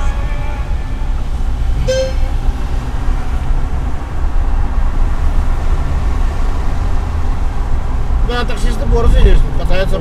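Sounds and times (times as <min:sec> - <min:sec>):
car cabin road noise: 0:00.0 - 0:10.0
tyres on wet road: 0:00.0 - 0:10.0.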